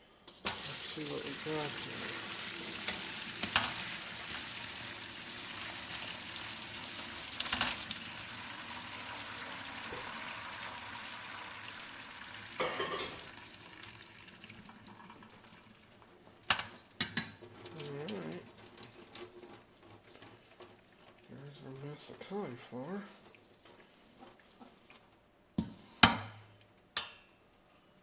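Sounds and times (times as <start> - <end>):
water draining in a strainer: 0.3 - 25.0.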